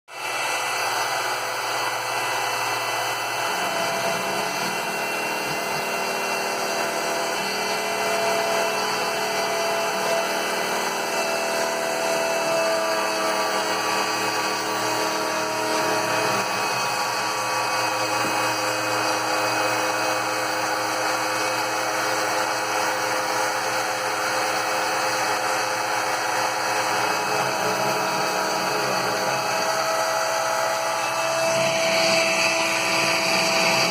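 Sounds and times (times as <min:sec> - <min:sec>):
metal cutting noise: 0:00.1 - 0:33.9
router spindle whine: 0:00.1 - 0:33.9.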